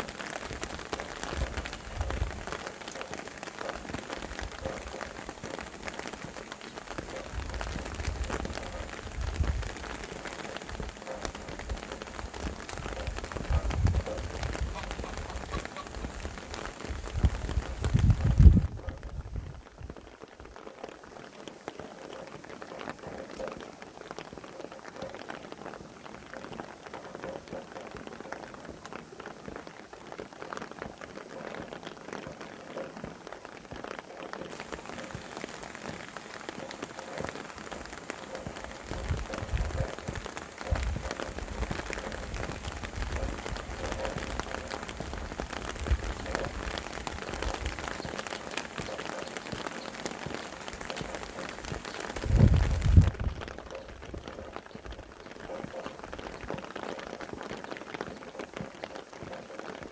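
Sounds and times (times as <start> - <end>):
low wind gusts: 0.0 - 21.3, 22.1 - 58.8
raindrops pattering: 0.0 - 59.9
steady rain falling: 0.0 - 59.9.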